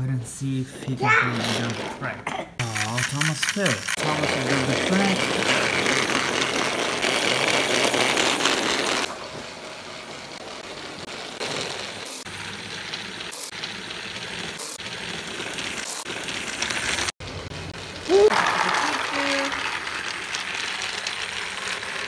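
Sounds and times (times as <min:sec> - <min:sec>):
toy train motor whirring: 0:02.6 - 0:22.0.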